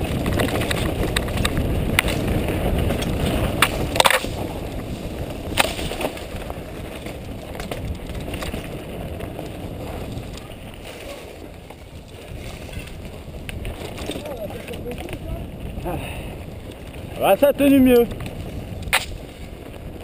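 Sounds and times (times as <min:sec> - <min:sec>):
bike rattling: 0:00.0 - 0:20.0
bike tyres rumbling over dirt: 0:00.0 - 0:20.0.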